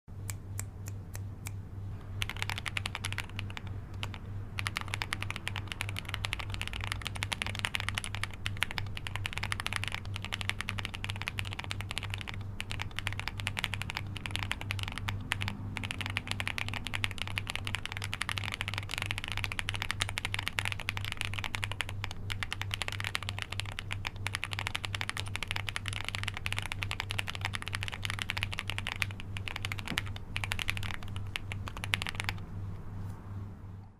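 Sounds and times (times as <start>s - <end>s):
mechanical keyboard typing: 2.2s - 32.4s.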